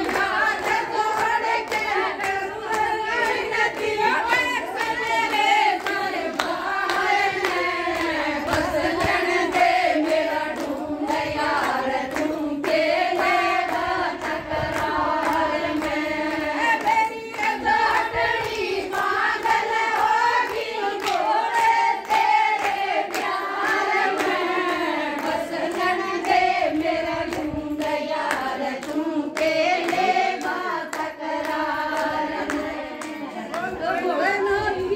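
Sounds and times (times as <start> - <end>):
hand clapping: 0.0 - 34.9
women singing devotional song: 0.0 - 34.9.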